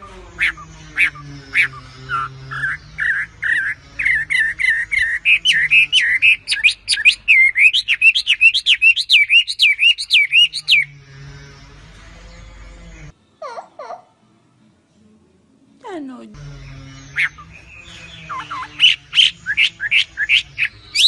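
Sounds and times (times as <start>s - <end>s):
bird chirping: 0.0s - 14.1s, 16.3s - 21.0s.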